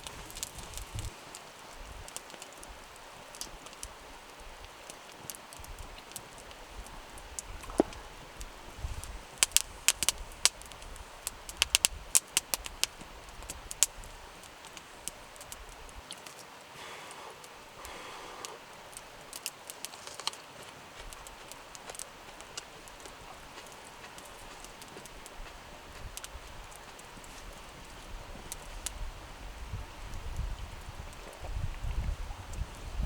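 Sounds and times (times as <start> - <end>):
wood fire crackling and popping: 0.0 - 29.2.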